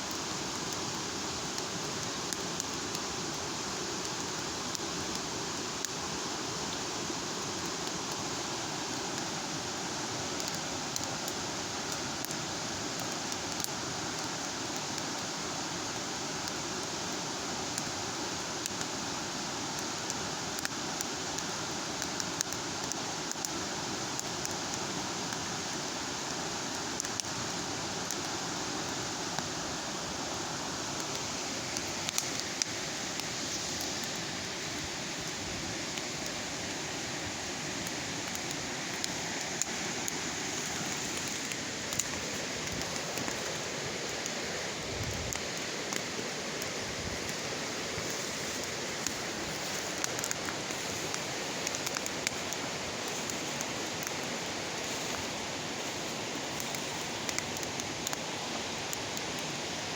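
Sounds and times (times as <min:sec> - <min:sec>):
bonfire flame rushing: 0:00.0 - 0:59.9
fire crackling and popping: 0:00.0 - 0:59.9.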